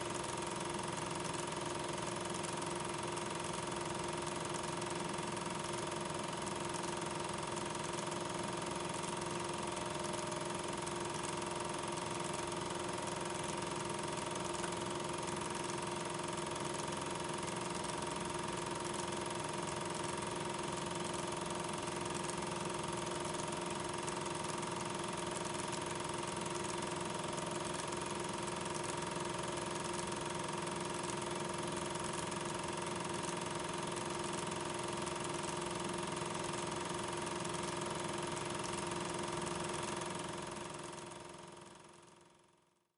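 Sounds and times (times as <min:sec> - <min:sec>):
film projector whirring: 0:00.0 - 0:42.6.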